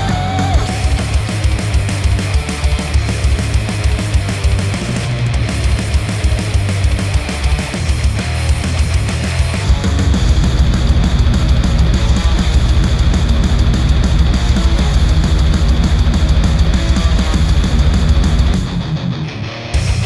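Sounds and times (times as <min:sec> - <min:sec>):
instrumental heavy rock music: 0:00.0 - 0:20.0.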